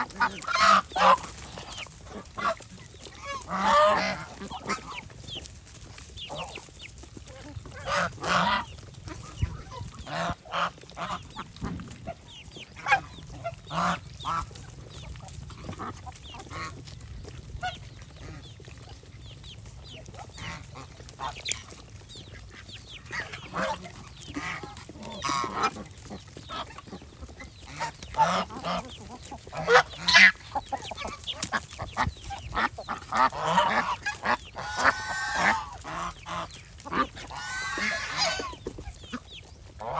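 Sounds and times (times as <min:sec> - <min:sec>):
geese honking: 0:00.0 - 0:19.1, 0:19.8 - 0:39.9.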